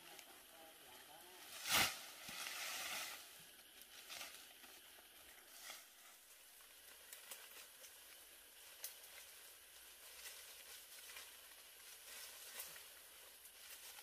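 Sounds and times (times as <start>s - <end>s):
faint clicks and rustles: 0.0s - 14.0s.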